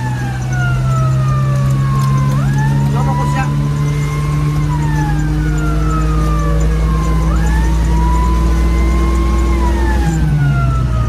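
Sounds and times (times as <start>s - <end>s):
siren wailing: 0.0s - 11.0s
vehicle engine running: 0.0s - 11.0s.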